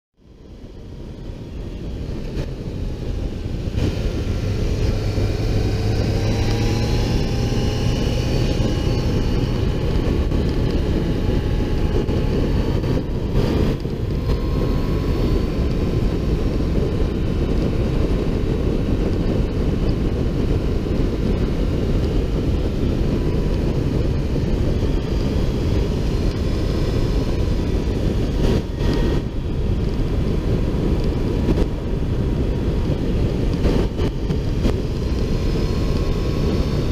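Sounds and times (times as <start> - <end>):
wind rushing over microphone: 0.2 - 36.9
motorcycle engine accelerating: 0.4 - 36.9.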